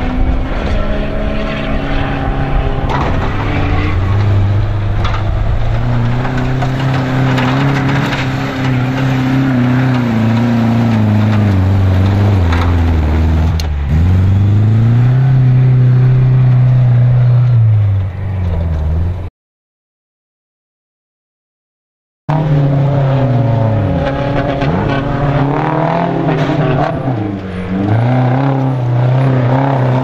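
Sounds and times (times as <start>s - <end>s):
off-road vehicle engine revving: 0.0s - 19.3s, 22.3s - 30.0s.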